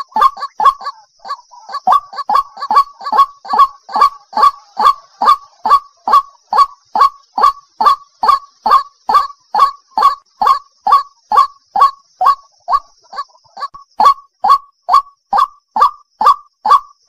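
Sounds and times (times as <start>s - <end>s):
waterhen calling harsh notes: 0.0s - 16.9s.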